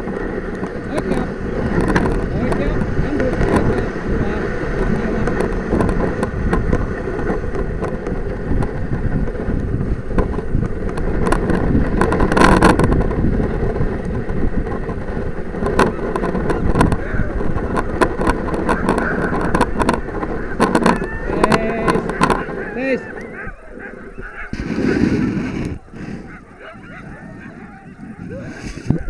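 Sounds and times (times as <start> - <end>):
sled knocking and rattling: 0.0 - 29.0
sled runners scraping on snow: 0.0 - 29.0.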